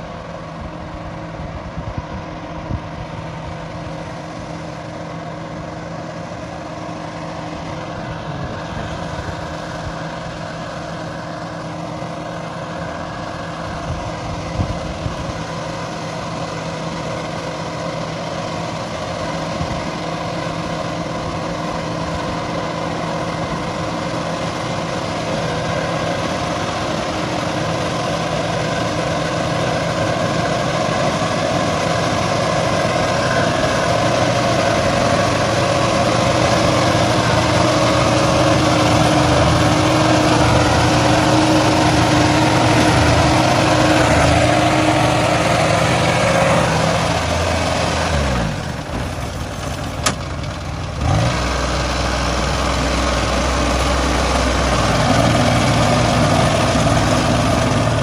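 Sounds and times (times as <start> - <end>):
machine engine running: 0.0 - 58.0.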